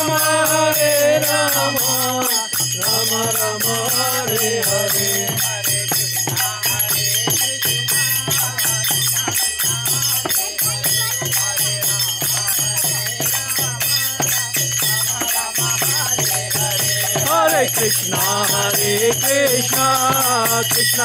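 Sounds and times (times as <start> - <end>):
hand cymbals jingling: 0.0 - 21.0.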